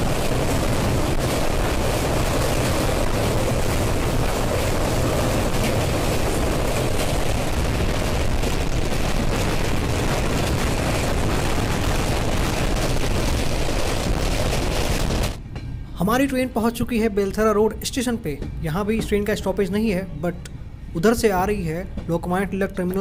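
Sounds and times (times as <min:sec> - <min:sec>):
train wheels rumbling on bridge: 0:00.0 - 0:20.0, 0:21.0 - 0:23.0.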